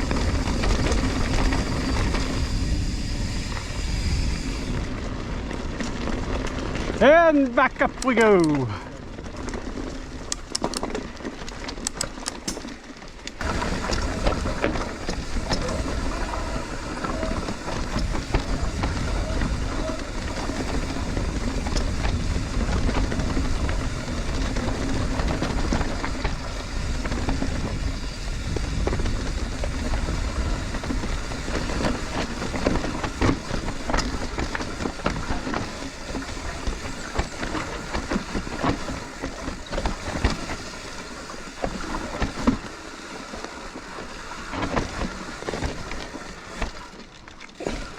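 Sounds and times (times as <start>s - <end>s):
bike tyres rumbling on trail: 0.0s - 47.9s.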